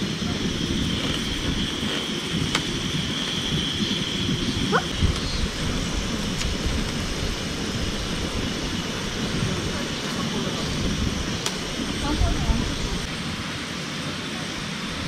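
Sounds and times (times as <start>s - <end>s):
steady high drone: 0.0s - 15.0s
wind noise on microphone: 0.0s - 15.0s.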